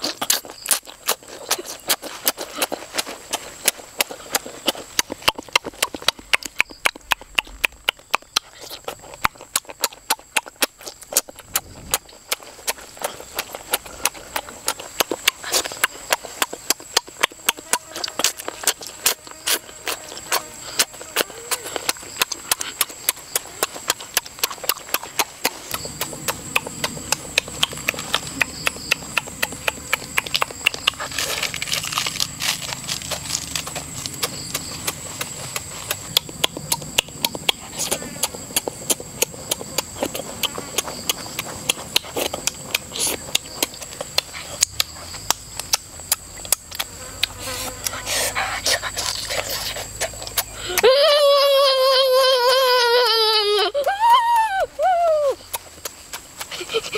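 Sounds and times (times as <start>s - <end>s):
wet chewing and lip-smacking: 0.0s - 51.2s, 53.7s - 56.9s.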